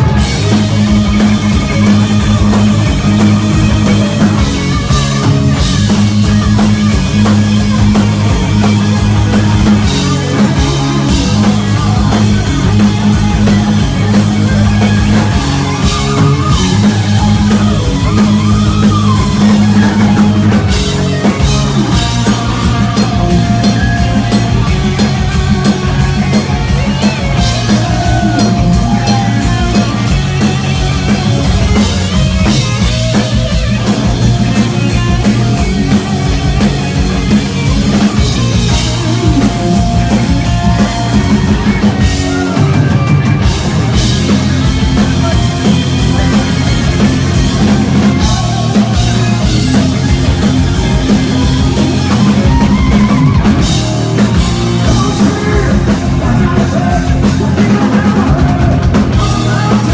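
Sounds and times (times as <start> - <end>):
distorted electric guitar lead: 0.0 - 59.9
pounding drum kit: 0.0 - 59.9
sustained bass notes: 0.0 - 59.9.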